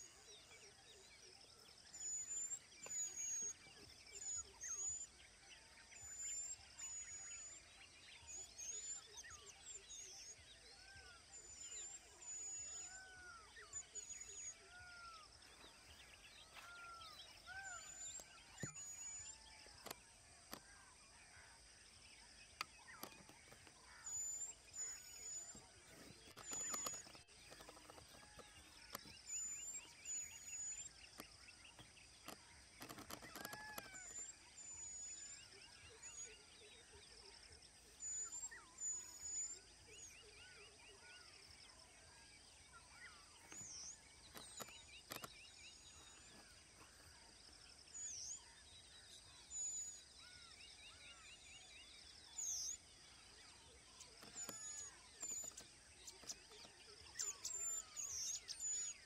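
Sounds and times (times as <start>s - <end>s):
wild birds calling: 10.5s - 59.0s.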